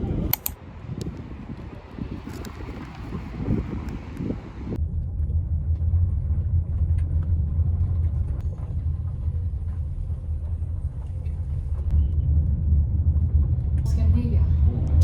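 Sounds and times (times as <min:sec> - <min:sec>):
vehicle rumble from inside: 0:00.0 - 0:15.0.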